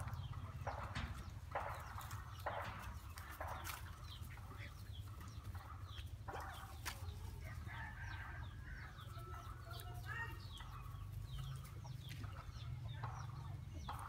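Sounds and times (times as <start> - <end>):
high chirping animal calls: 0.0 - 14.0.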